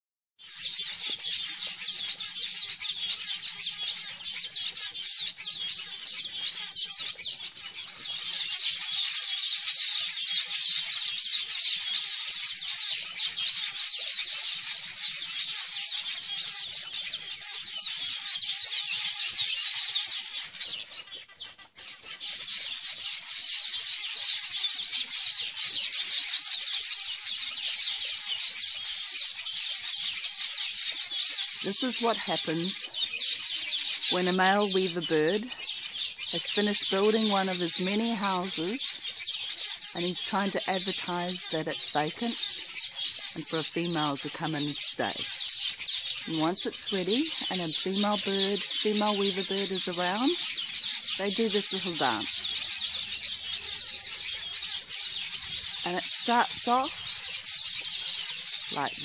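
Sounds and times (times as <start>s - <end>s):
birds chattering: 0.4s - 59.0s.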